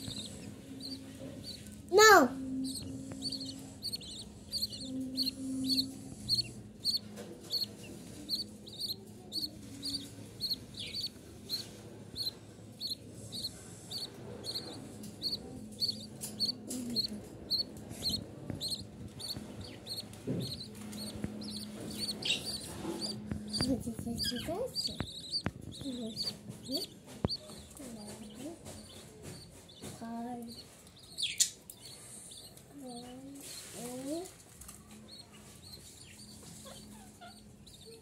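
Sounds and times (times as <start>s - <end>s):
budgerigar chicks peeping: 0.0s - 38.0s.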